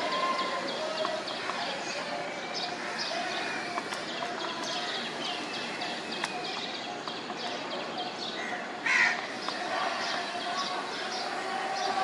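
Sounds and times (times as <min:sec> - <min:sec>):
birds chirping: 0:00.0 - 0:12.0
steady background noise: 0:00.0 - 0:12.0.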